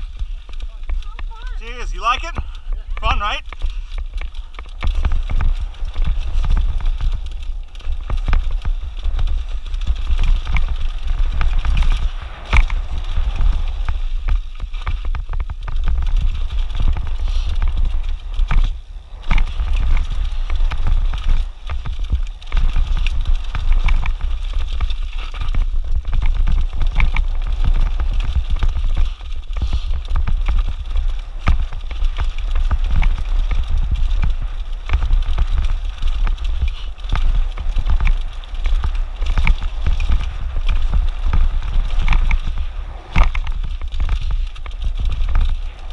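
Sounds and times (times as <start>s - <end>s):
bike clattering: 0.0s - 45.9s
low rumble: 0.0s - 45.9s
tyres crunching over rock: 0.0s - 45.9s.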